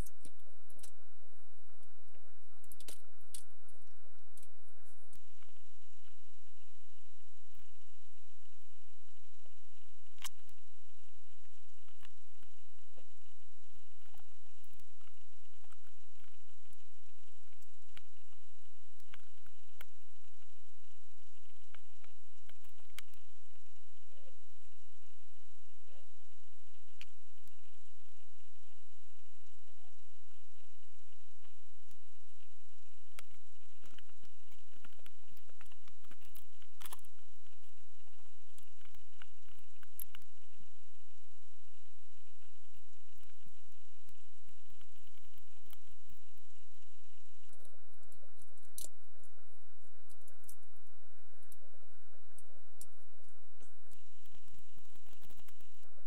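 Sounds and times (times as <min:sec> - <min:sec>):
crackles and clicks: 0:00.0 - 0:56.0
electrical hum and hiss: 0:00.0 - 0:56.0.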